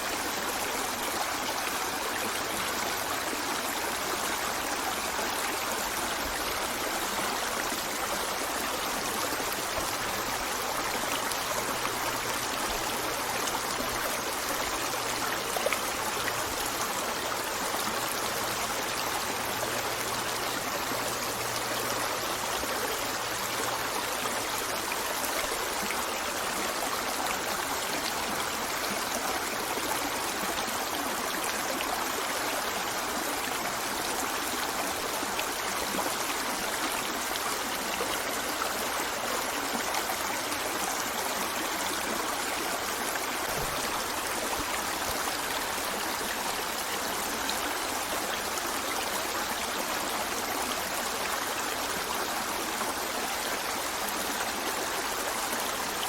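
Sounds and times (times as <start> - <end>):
river flowing over stones: 0.0 - 56.0.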